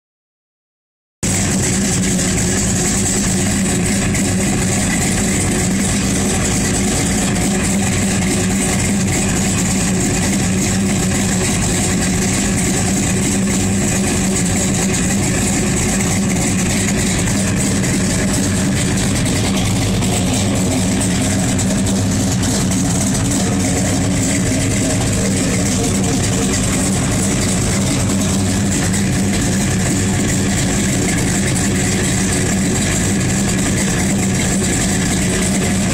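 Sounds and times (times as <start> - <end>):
car engine idling: 1.2 - 35.9.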